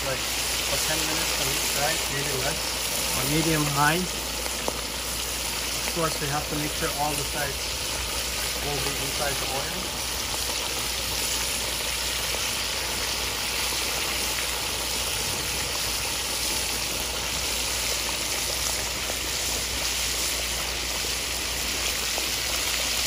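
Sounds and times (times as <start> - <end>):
fish deep-frying in oil: 0.0 - 23.0.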